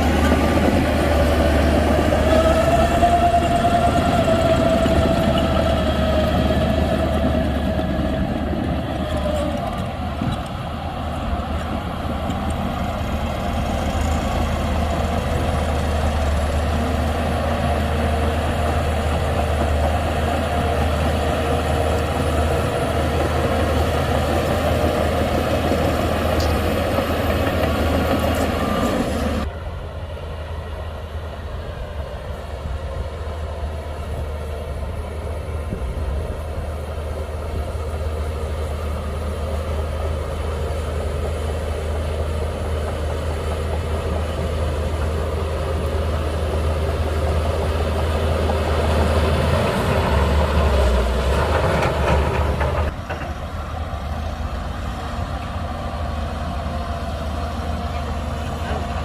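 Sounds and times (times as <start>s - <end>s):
diesel earthmoving machinery running: 0.0s - 59.0s.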